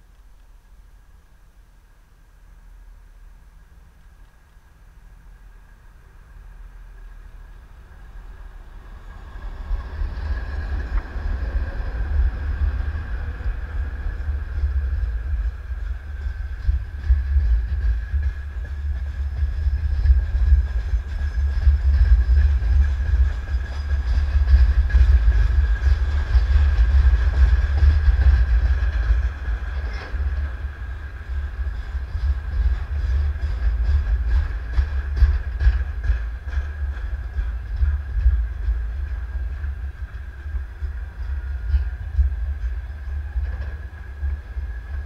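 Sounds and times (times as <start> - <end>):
diesel locomotive rumbling: 0.0 - 45.0.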